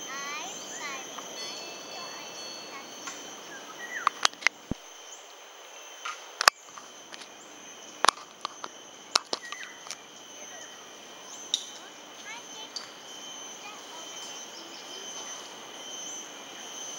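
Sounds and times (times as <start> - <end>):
high insect drone: 0.0 - 16.9.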